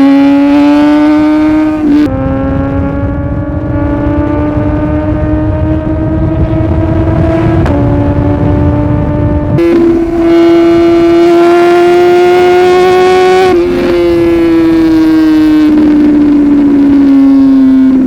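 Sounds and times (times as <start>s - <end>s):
motorcycle engine revving high: 0.0s - 18.0s.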